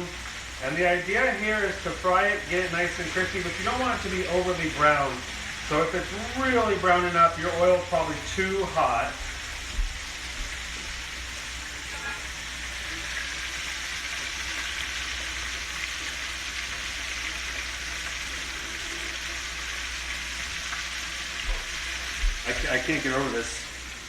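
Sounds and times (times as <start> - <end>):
fish deep-frying in oil: 0.0 - 24.0.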